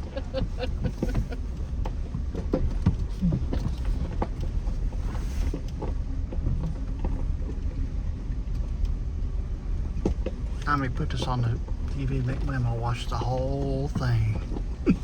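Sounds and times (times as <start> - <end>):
vehicle cabin rumble: 0.0 - 15.0.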